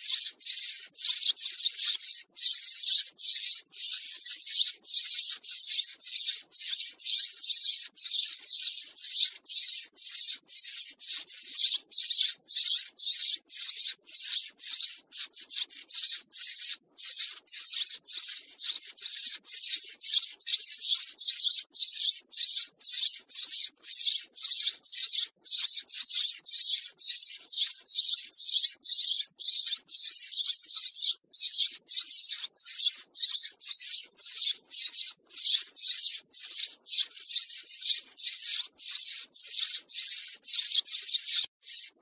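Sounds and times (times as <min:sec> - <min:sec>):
sparrow chirping: 0:00.0 - 0:42.0.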